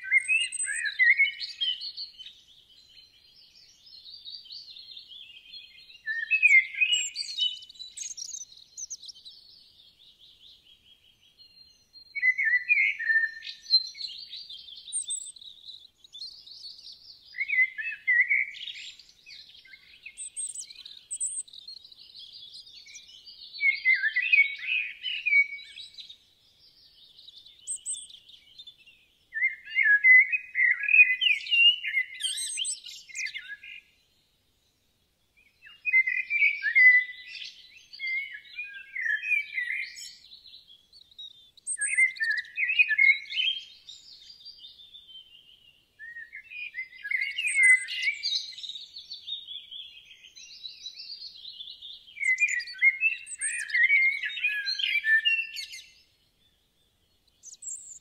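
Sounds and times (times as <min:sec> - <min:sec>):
songbird chirping and warbling: 0:00.0 - 0:58.0.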